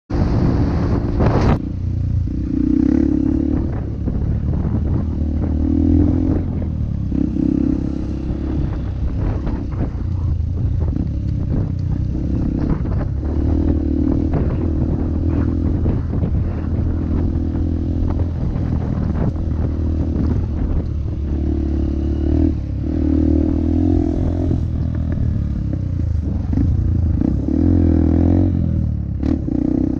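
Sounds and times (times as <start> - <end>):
motorcycle engine revving: 0.2 - 29.9.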